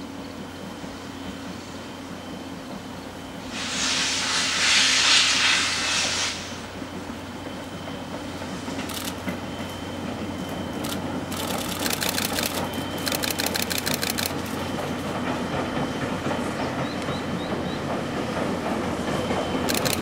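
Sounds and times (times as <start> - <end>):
steam locomotive rumble: 0.0 - 20.0.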